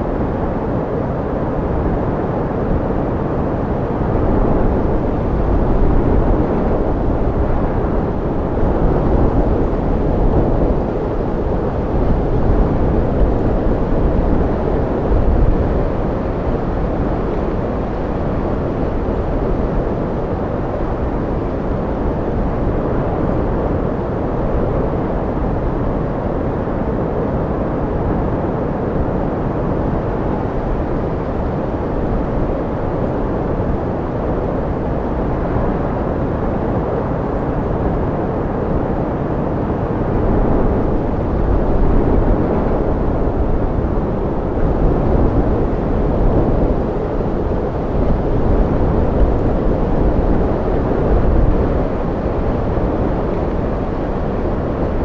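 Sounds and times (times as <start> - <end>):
deep rumbling wind: 0.0 - 55.0.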